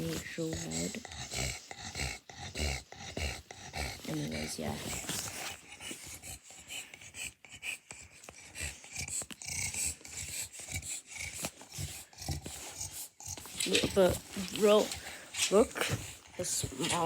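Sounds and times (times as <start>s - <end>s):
small dog snoring: 0.0s - 7.3s, 8.1s - 17.0s.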